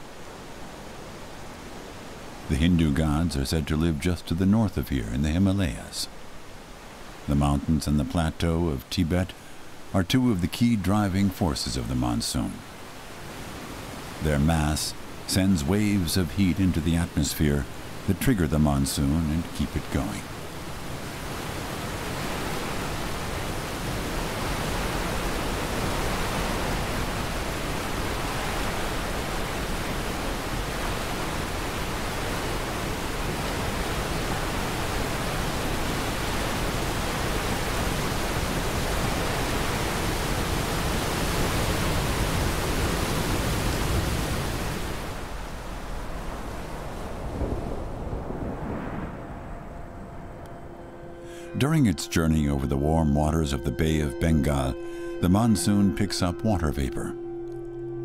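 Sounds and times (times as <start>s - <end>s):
waterfall roaring: 0.0s - 48.1s.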